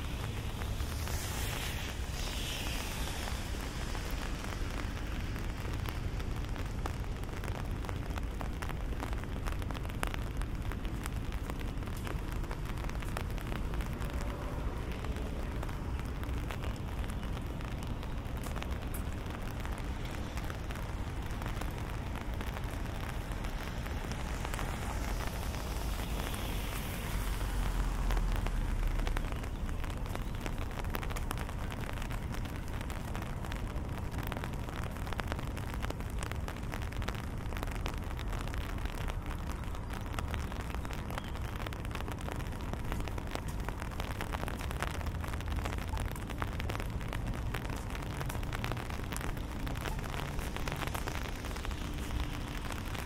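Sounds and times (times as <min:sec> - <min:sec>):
rain pattering on umbrella: 0:00.0 - 0:53.0.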